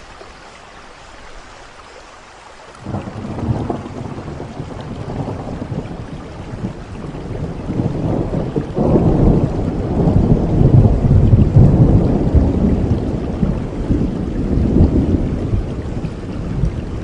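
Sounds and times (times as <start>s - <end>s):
steady rain: 0.0s - 17.0s
thunder rolling: 2.8s - 17.0s.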